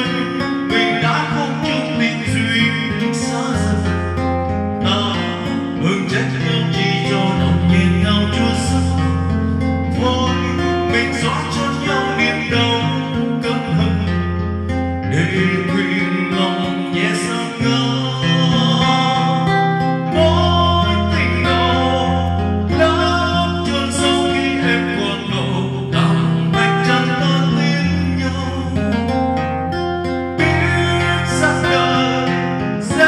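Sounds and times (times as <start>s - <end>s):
song with guitar and singing: 0.0s - 33.0s.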